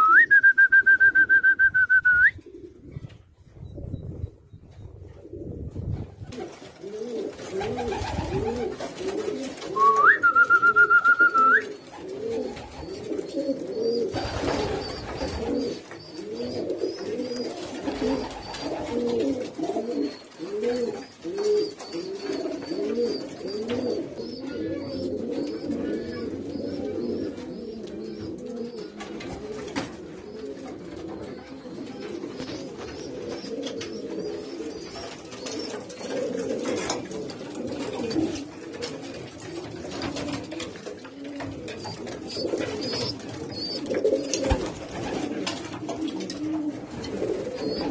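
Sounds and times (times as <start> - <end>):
pigeons cooing: 2.3 - 47.9.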